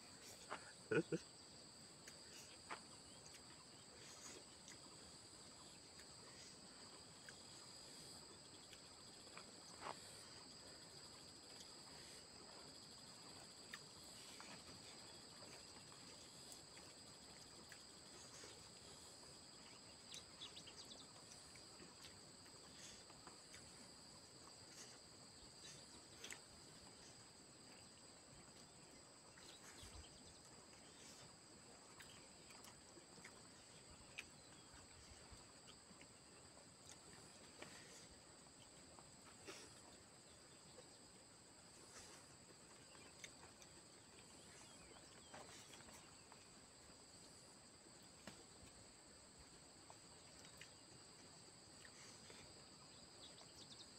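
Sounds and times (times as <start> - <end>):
crickets droning: 0.0 - 53.9.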